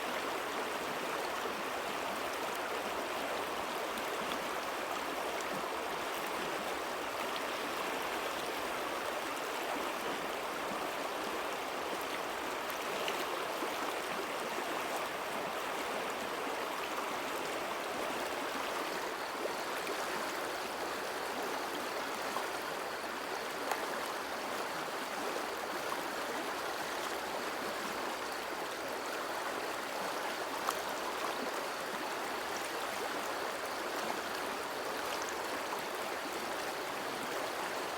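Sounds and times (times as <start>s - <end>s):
water flowing steadily: 0.0s - 37.9s.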